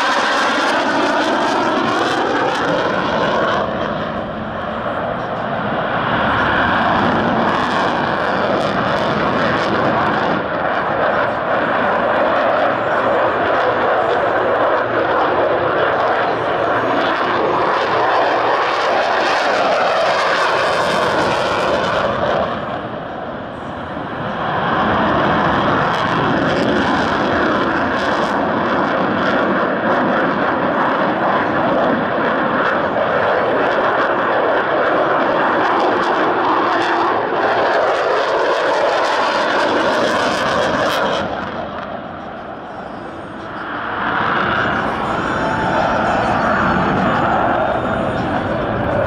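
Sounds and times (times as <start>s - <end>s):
fighter jet engine roaring: 0.0s - 49.0s
jet afterburner: 0.0s - 49.0s.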